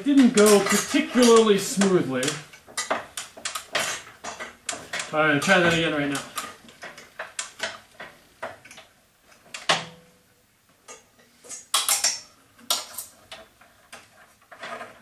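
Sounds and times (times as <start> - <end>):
metal parts clanking: 0.0 - 10.1, 10.9 - 15.0.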